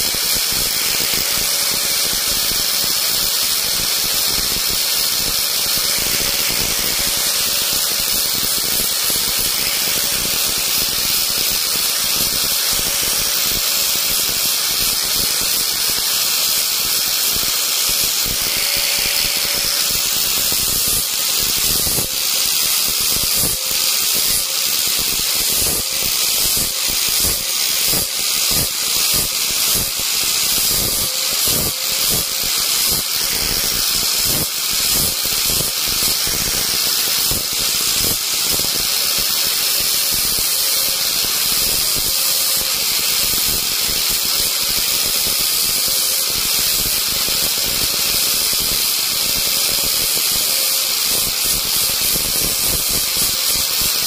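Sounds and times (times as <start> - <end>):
rotary tool cutting wood: 0.0 - 54.0.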